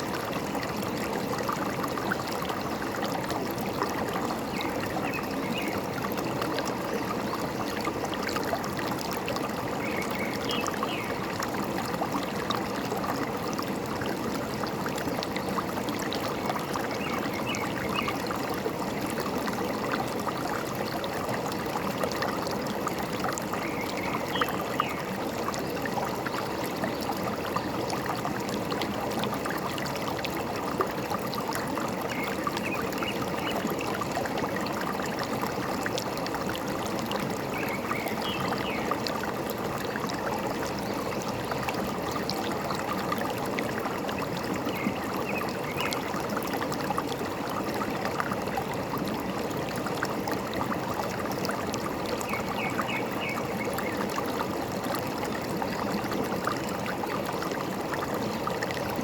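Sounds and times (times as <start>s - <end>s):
forest stream trickling: 0.0s - 59.0s.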